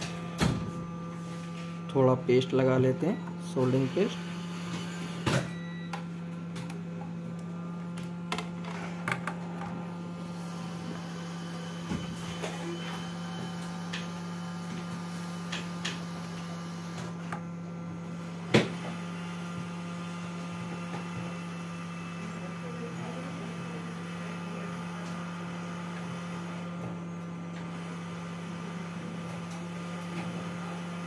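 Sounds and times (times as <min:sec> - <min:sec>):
hot-air station blowing: 0:00.0 - 0:31.0.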